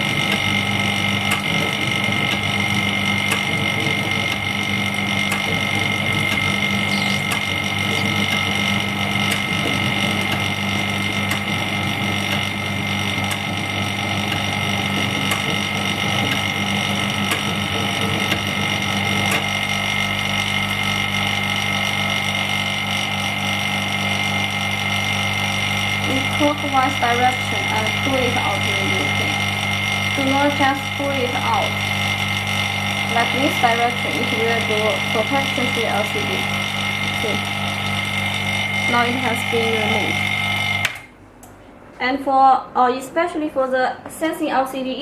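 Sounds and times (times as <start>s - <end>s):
machine hum: 0.0s - 44.8s.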